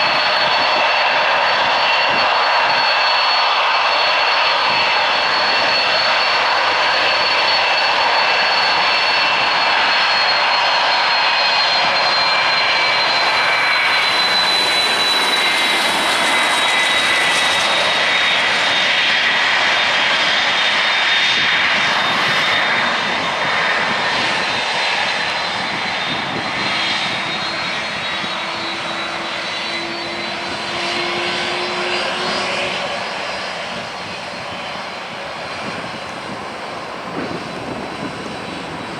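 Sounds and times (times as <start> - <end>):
jet engine roar with whine: 0.0 - 38.9.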